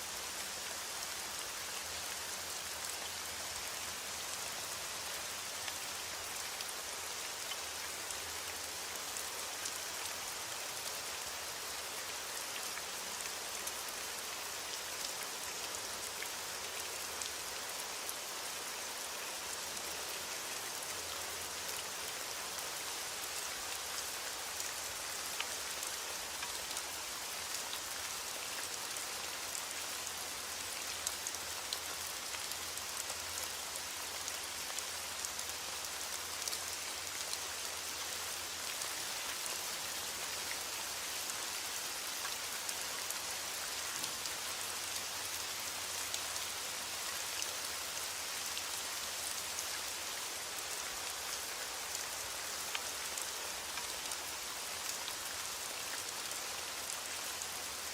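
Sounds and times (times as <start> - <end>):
rain on a hard surface: 0.0 - 57.9.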